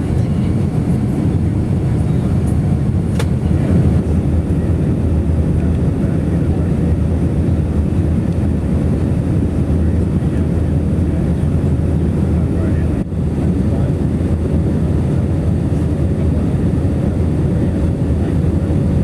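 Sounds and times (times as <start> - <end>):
airliner cabin engine roar: 0.0 - 19.0.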